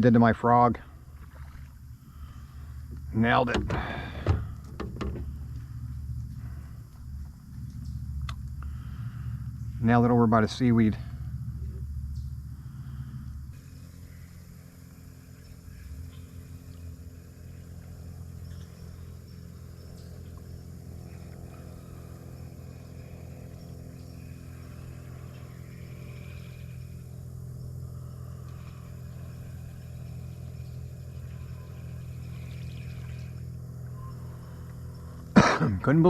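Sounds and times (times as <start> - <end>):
steady low engine hum: 0.0 - 36.0.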